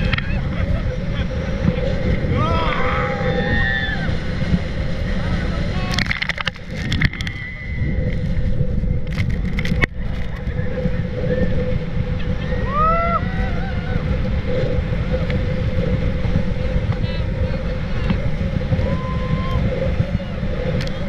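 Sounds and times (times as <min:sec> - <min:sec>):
speedboat engine droning: 0:00.0 - 0:21.0
wind rumble on microphone: 0:00.0 - 0:21.0.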